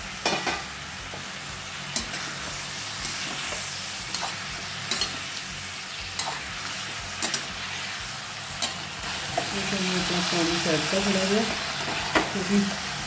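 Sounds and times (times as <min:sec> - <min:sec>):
zucchini sizzling in a frying pan: 0:00.0 - 0:13.0.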